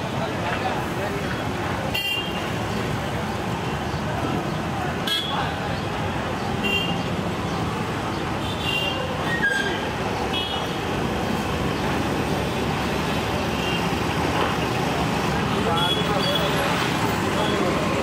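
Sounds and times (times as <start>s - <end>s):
crowd in background: 0.0s - 18.0s
roadside traffic noise: 0.0s - 18.0s.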